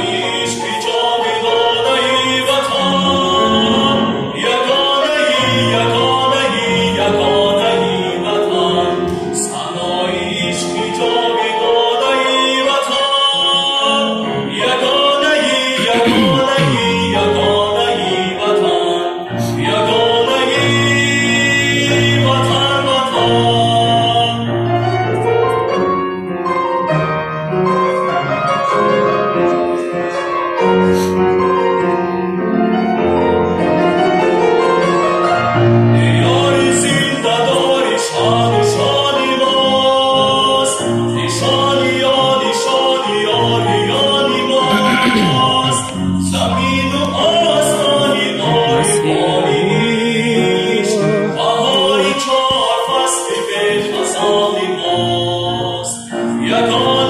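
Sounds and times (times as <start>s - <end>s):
young man singing: 0.0s - 24.5s, 35.7s - 57.0s
grand piano: 0.0s - 57.0s.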